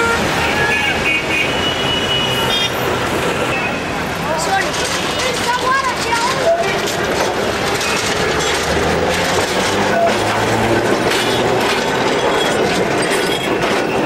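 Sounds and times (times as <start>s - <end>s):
tram wheels rattling over rails: 2.4s - 14.0s.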